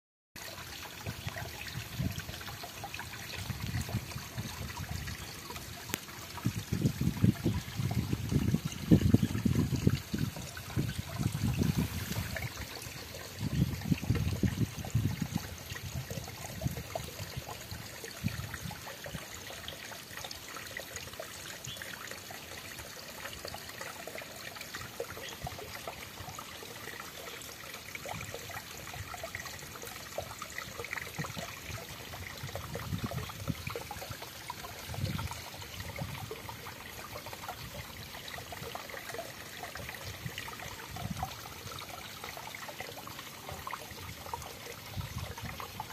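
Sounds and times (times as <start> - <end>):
water trickling over rocks: 0.4 - 45.9.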